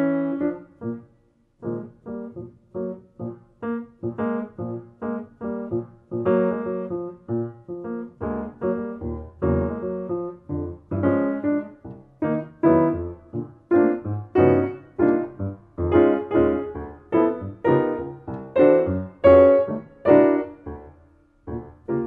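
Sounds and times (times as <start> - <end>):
solo jazz piano chords: 0.0 - 22.0.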